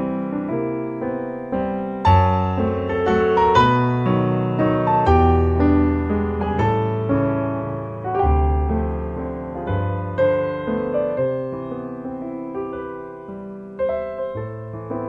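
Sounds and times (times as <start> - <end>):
background piano music: 0.0 - 15.0.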